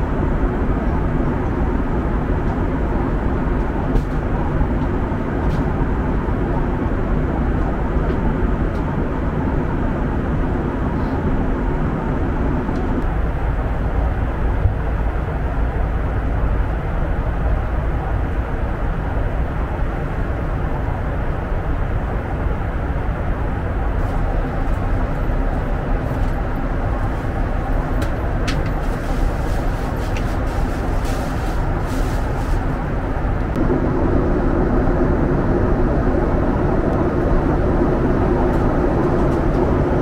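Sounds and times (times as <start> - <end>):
airplane cabin airflow and engine rush: 0.0 - 40.0.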